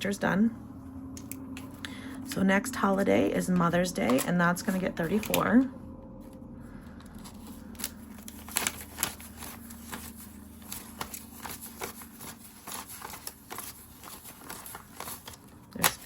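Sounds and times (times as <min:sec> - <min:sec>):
banknotes rustling and snapping: 0:01.2 - 0:05.6, 0:06.8 - 0:16.0.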